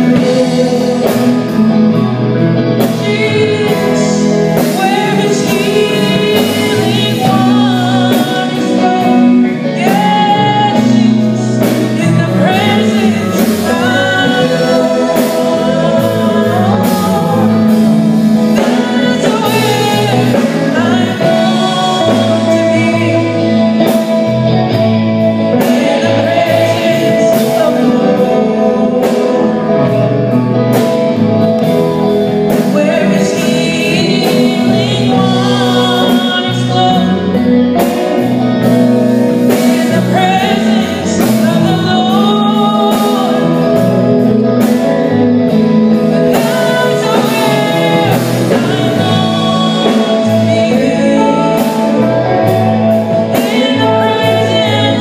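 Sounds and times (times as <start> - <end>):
bass guitar: 0.0 - 55.0
electric guitars: 0.0 - 55.0
woman singing into a microphone: 0.0 - 55.0.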